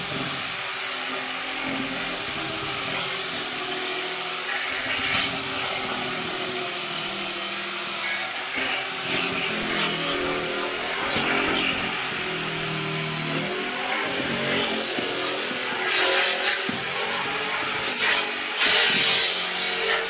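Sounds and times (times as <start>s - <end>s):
angle grinder grinding metal: 0.0s - 20.0s.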